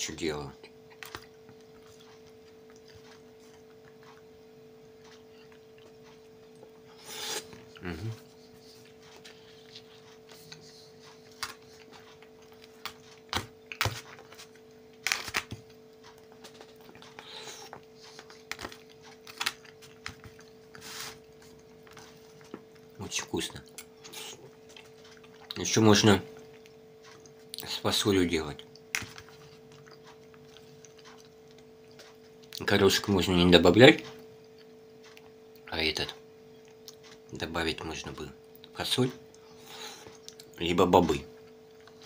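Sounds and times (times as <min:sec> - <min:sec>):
steady hum: 0:00.0 - 0:42.0
chewing: 0:00.6 - 0:25.6, 0:26.3 - 0:27.8, 0:28.6 - 0:32.7, 0:34.0 - 0:35.6, 0:36.5 - 0:37.3, 0:38.5 - 0:40.6, 0:41.3 - 0:42.0.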